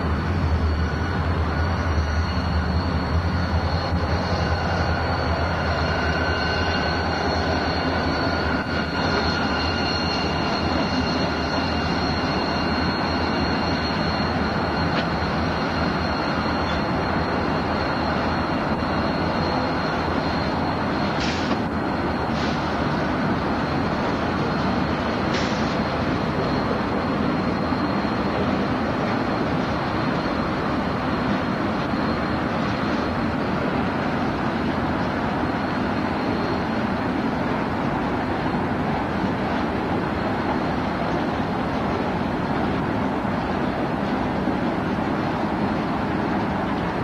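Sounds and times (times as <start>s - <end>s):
diesel locomotives running: 0.0s - 47.0s.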